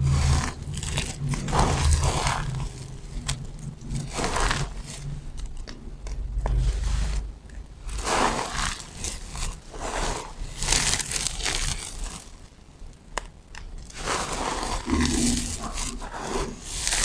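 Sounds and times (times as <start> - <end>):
soap shavings crunching: 0.0 - 17.0.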